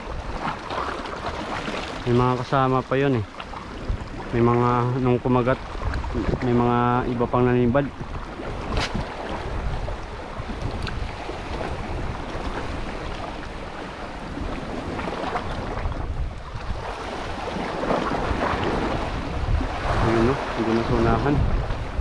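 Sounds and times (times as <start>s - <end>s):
sea waves: 0.0s - 22.0s
wind buffeting microphone: 0.0s - 22.0s.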